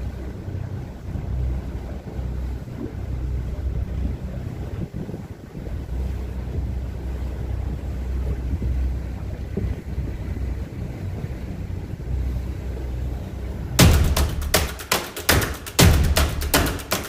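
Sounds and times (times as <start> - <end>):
motorboat engine rumble: 0.0 - 17.0
wind buffeting microphone: 0.2 - 13.9.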